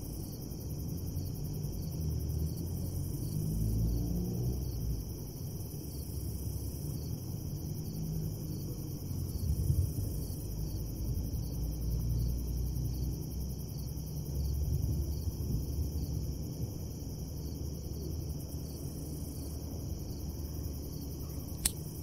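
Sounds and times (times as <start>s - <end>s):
continuous low rumble: 0.0s - 22.0s
crickets chirping: 0.0s - 22.0s.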